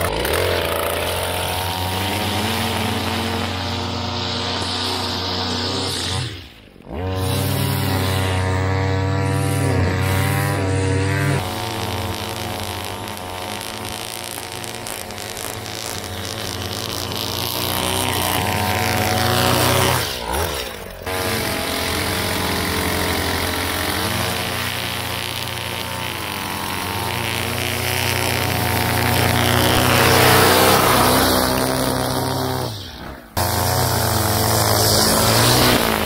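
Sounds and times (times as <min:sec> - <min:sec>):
string trimmer engine running: 0:00.0 - 0:36.0.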